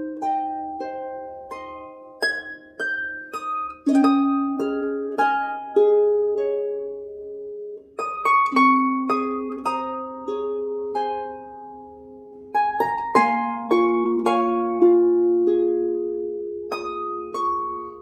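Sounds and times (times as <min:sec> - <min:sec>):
slow plucked-string melody: 0:00.0 - 0:18.0.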